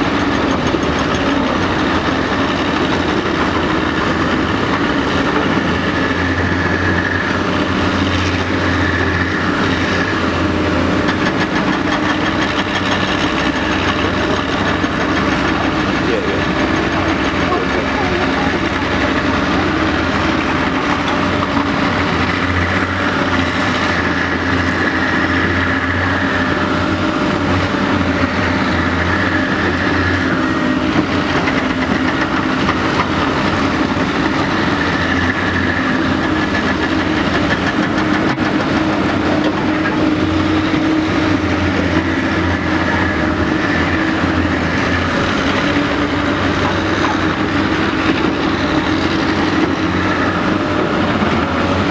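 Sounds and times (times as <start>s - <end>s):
excavator diesel engine running: 0.0s - 51.9s
hydraulic whine: 0.0s - 51.9s.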